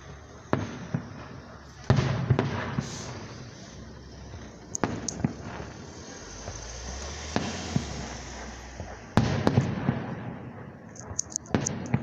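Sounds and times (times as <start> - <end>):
sharp firework cracks: 0.0 - 12.0
trailing rumble: 0.0 - 12.0
firework shells bursting: 0.1 - 6.1, 6.9 - 12.0.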